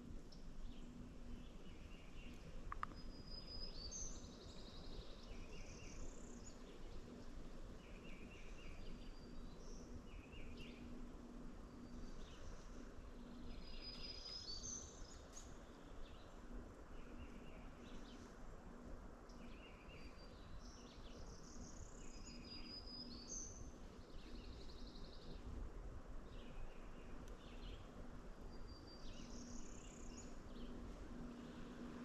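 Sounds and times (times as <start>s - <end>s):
outdoor background hiss: 0.0s - 32.0s
small songbirds singing: 0.2s - 32.0s.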